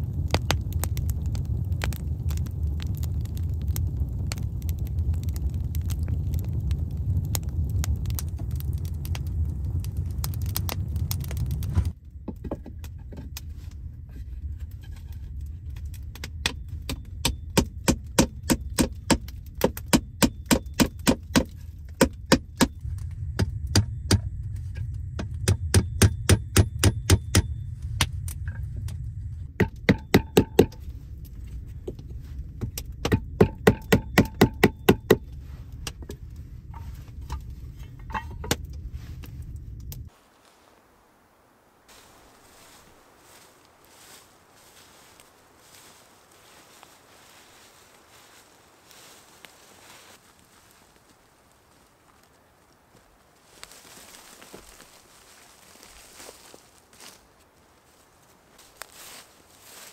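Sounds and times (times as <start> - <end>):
stove fire rumble: 0.0 - 59.9.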